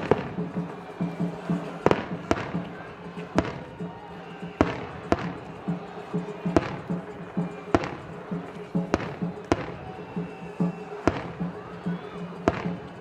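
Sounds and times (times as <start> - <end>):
festival drums beating: 0.0 - 13.0
fireworks bangs: 0.0 - 13.0.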